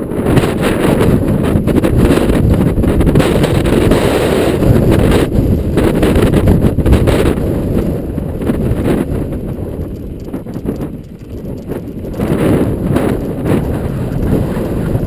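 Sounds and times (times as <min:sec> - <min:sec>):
wind buffeting microphone: 0:00.0 - 0:15.0
bike clicks and rattles: 0:00.4 - 0:15.0.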